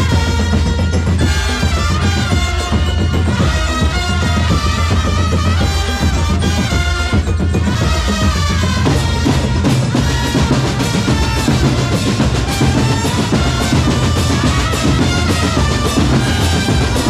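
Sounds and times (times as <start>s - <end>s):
bass drum: 0.0s - 17.0s.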